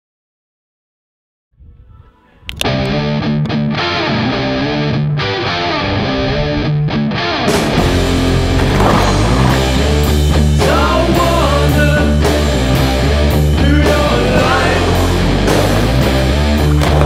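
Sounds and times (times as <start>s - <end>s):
rock music with electric guitar: 2.5s - 17.0s.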